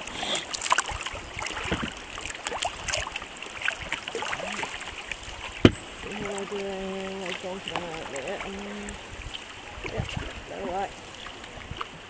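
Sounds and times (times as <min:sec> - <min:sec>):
paddle drips and splashes: 0:00.0 - 0:12.0
water lapping around canoe hull: 0:00.0 - 0:12.0.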